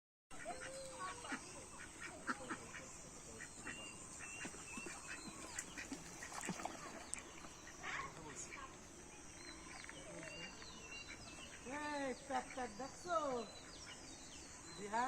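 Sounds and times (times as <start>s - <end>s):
ducks quacking: 0.3s - 8.8s, 9.6s - 14.1s.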